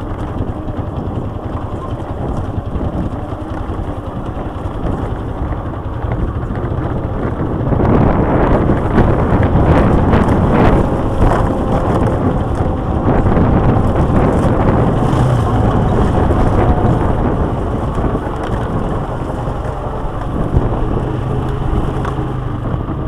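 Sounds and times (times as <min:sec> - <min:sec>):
quad bike engine running: 0:00.0 - 0:23.0
wind rumbling on microphone: 0:00.0 - 0:23.0.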